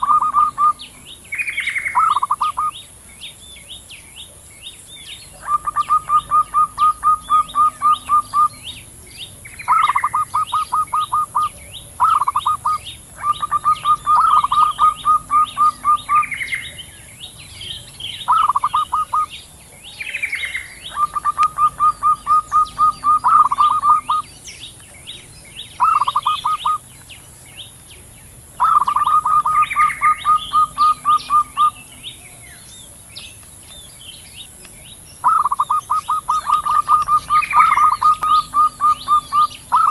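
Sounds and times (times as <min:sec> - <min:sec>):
doves cooing staccato: 0:00.0 - 0:02.8, 0:05.3 - 0:27.0, 0:28.0 - 0:32.0, 0:35.2 - 0:39.9
small birds chirping: 0:00.0 - 0:39.9.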